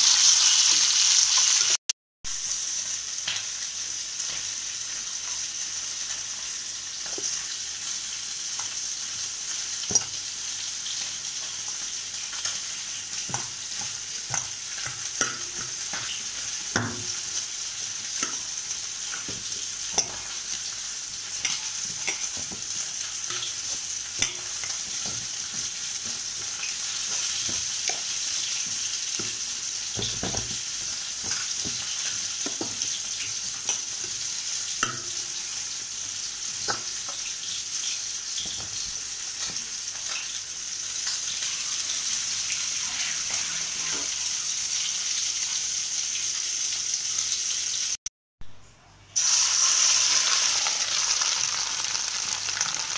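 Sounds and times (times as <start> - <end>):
steady sizzling hiss: 2.4 - 48.0, 49.1 - 52.9.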